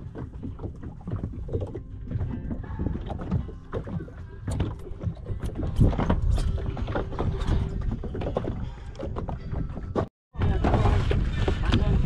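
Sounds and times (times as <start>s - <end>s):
knocks and splashes: 0.0s - 12.0s
waves lapping against boat: 0.0s - 12.0s.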